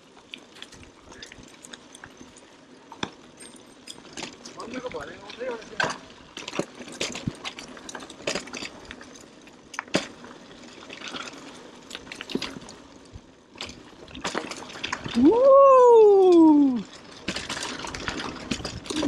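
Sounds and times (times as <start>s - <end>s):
clicks and crackles: 0.0s - 19.0s.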